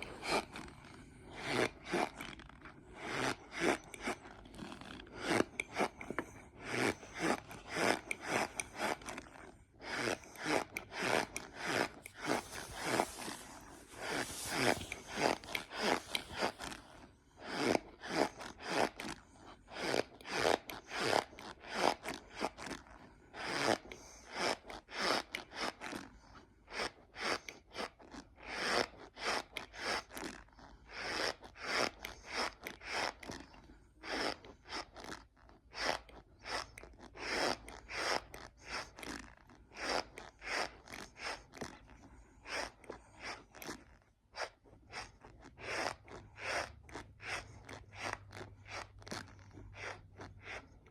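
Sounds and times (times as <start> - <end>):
squeaky crunchy chewing: 0.0 - 50.9.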